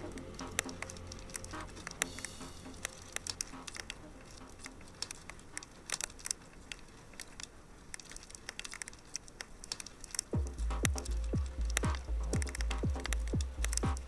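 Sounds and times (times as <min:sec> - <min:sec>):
fire crackling and popping: 0:00.0 - 0:14.0
soft low hum: 0:00.0 - 0:14.0.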